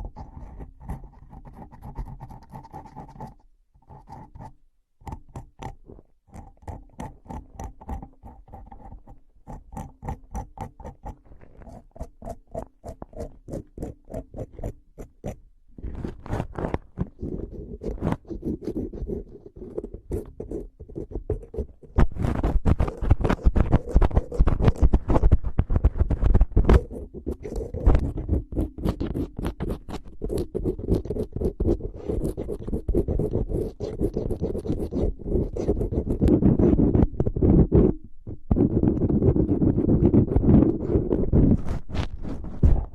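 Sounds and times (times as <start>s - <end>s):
scratching and rubbing: 0.0s - 42.9s.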